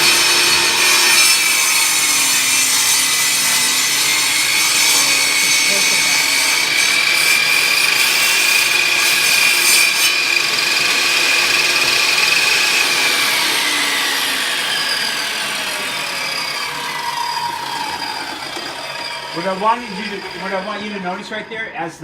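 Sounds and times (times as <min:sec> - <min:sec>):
table saw ripping board: 0:00.0 - 0:21.3.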